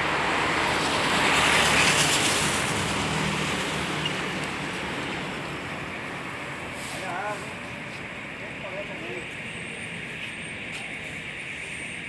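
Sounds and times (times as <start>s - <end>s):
road traffic rush: 0.0s - 12.0s.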